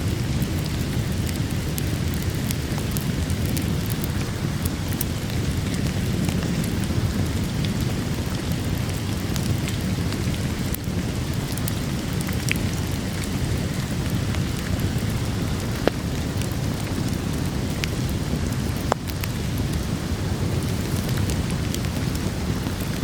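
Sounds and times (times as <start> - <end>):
heavy rain: 0.0 - 23.0
wood fire crackling: 0.0 - 23.0.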